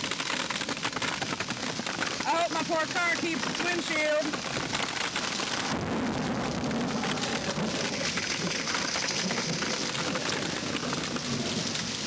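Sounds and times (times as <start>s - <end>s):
hail and rain pelting down: 0.0s - 12.0s.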